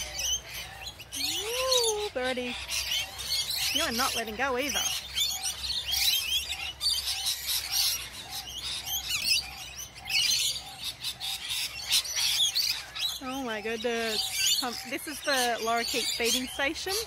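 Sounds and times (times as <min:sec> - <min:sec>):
lorikeets screeching and chattering: 0:00.0 - 0:17.0.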